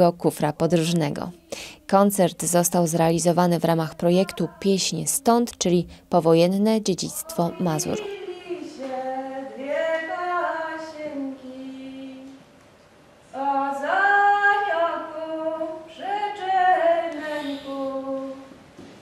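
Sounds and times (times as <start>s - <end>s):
women singing long held notes: 0.7s - 6.0s, 7.0s - 12.5s, 13.3s - 18.6s.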